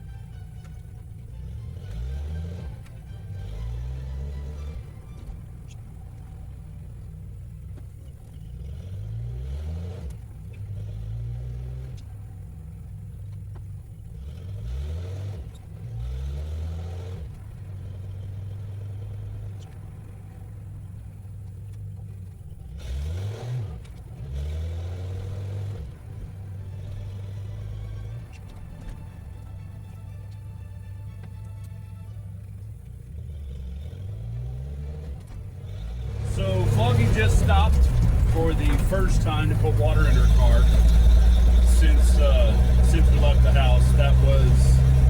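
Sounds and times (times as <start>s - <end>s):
car engine revving through gears: 0.0s - 45.0s.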